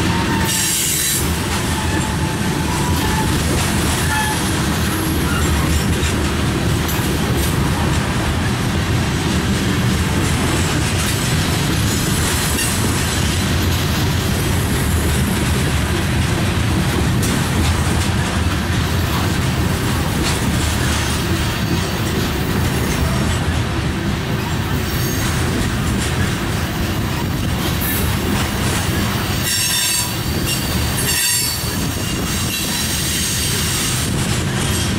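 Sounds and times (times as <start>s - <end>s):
freight train wheels rumbling on rails: 0.0s - 34.9s.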